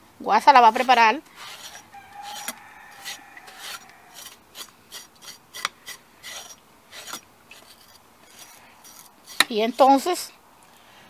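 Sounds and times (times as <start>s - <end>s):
kitchen knife scraping: 0.6s - 9.8s.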